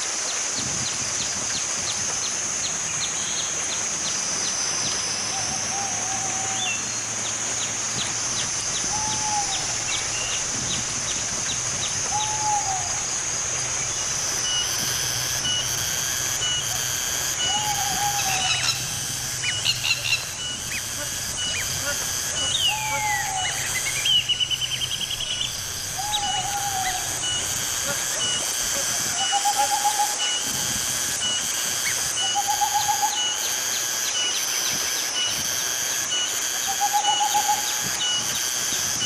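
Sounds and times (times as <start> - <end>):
insect drone with ticking chirps: 0.0 - 39.0.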